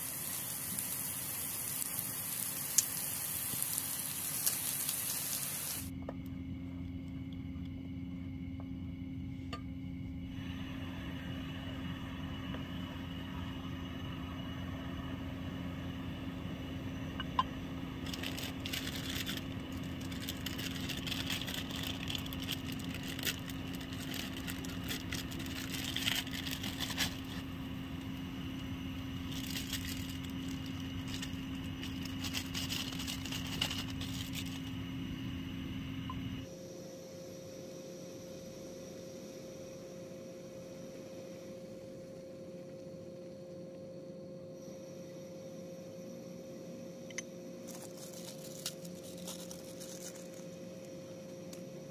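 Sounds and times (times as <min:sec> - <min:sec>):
gas stove burner running: 0:00.0 - 0:37.2, 0:47.1 - 0:51.9.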